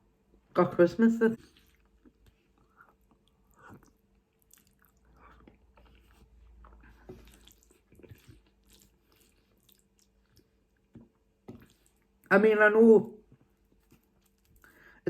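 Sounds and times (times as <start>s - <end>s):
person chewing: 1.4s - 12.3s, 13.5s - 14.8s.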